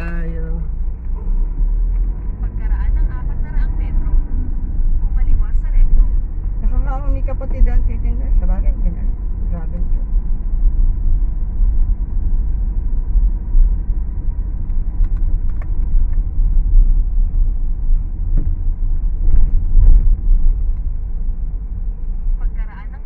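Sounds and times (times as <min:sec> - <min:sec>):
road vehicle rumble: 0:00.0 - 0:23.0.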